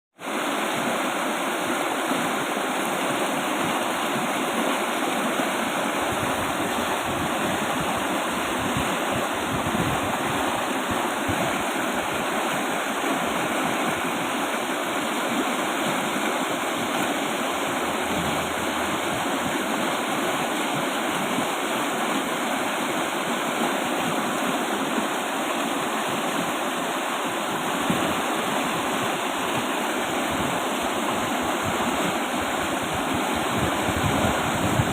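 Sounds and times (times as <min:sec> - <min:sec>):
river rushing: 0:00.2 - 0:34.9.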